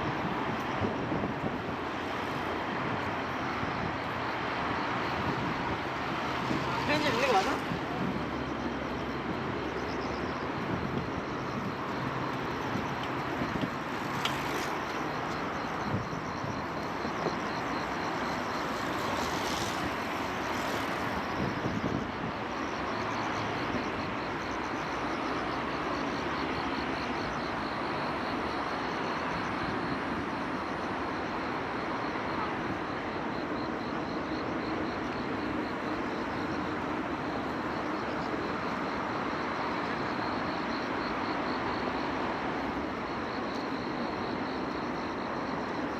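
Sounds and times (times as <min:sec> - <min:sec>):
city traffic hum: 0:00.0 - 0:45.9.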